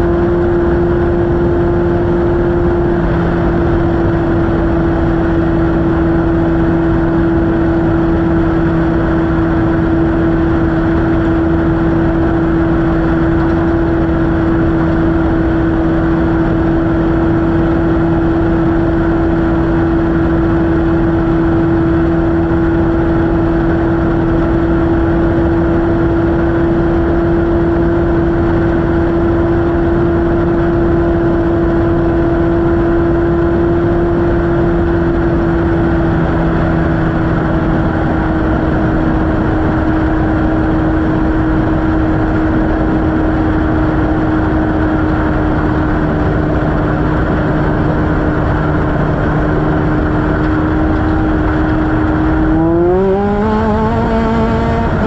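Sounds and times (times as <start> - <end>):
engine running hard: 0.0 - 55.0
wind and terrain noise: 0.0 - 55.0.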